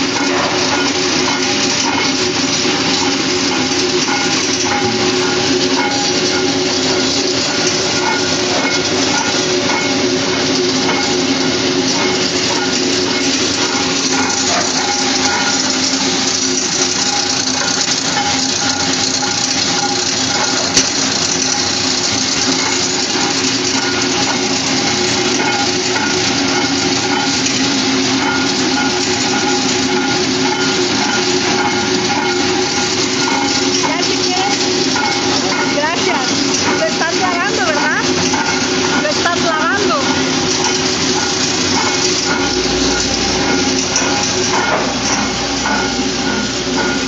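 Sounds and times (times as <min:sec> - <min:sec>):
machine hum: 0:00.0 - 0:47.0.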